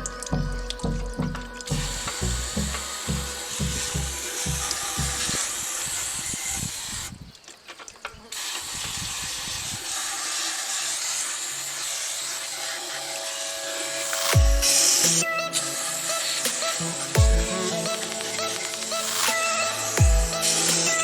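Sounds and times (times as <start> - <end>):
hissing spray: 1.7 - 7.2, 8.3 - 21.0.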